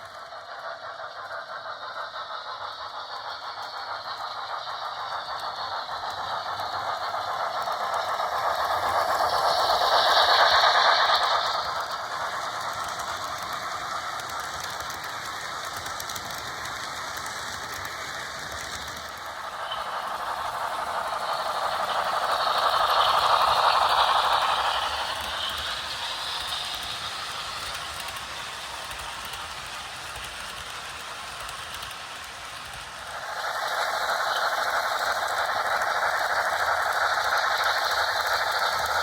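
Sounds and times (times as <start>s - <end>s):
model train rattling along track: 0.0s - 39.0s.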